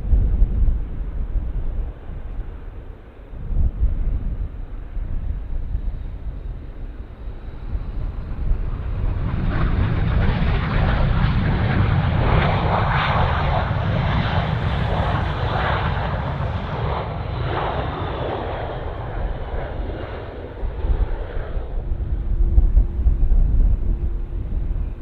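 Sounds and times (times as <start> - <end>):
jet engines roaring: 4.1 - 25.0.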